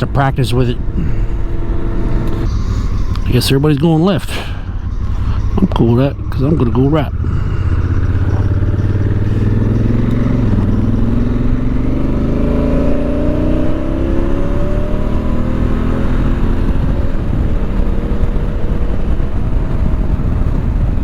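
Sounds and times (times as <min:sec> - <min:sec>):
motorcycle engine accelerating: 0:00.0 - 0:21.0
wind noise: 0:00.0 - 0:21.0.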